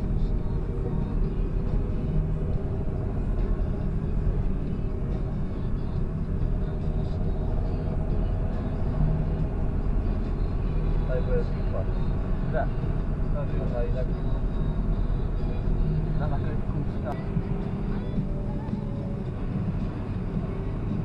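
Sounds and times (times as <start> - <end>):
tractor diesel engine droning: 0.0 - 21.0.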